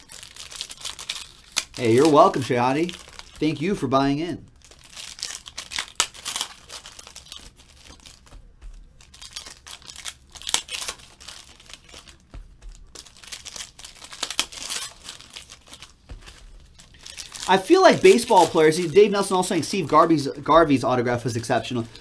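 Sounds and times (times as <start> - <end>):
foil wrappers crinkling and tearing: 0.0 - 22.0.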